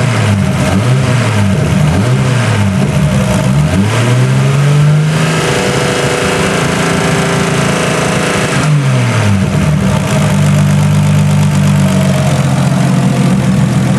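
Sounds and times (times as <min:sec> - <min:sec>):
turbocharged car engine running: 0:00.0 - 0:13.9.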